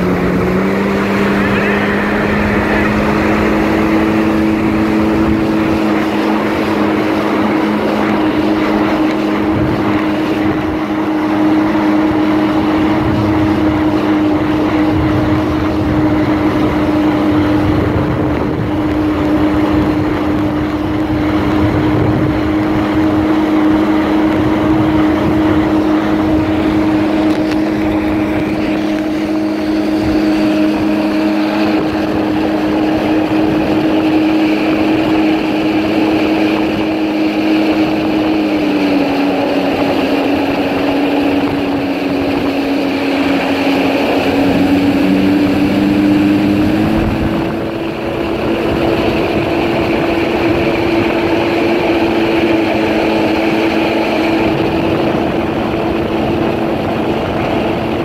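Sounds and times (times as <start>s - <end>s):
jet ski engine droning: 0.0s - 58.0s
water rushing under hull: 0.0s - 58.0s.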